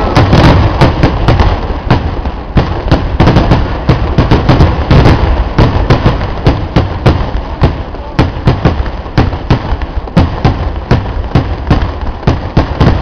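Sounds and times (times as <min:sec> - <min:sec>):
loud firework explosions: 0:00.0 - 0:13.0
low rumble of blasts: 0:00.0 - 0:13.0.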